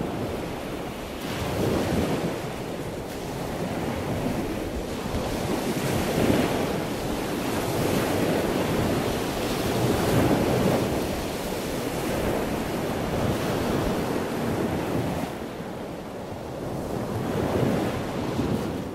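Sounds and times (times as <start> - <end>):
waves breaking on beach: 0.0 - 18.9
wind rumble on microphone: 0.0 - 18.9.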